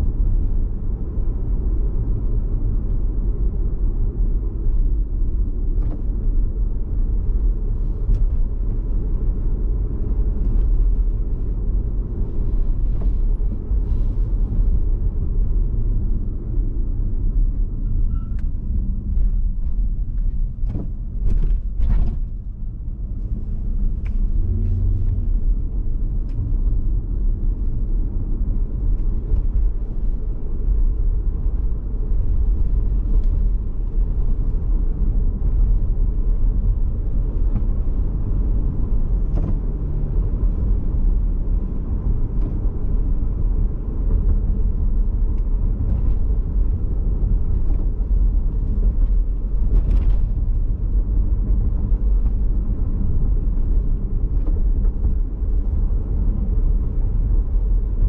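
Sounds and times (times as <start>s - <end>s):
car cabin road rumble: 0.0s - 58.0s.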